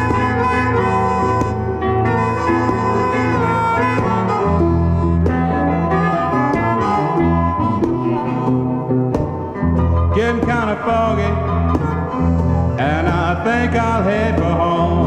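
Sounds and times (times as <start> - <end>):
wind instrument lead: 0.0 - 13.2
bass line: 0.0 - 15.0.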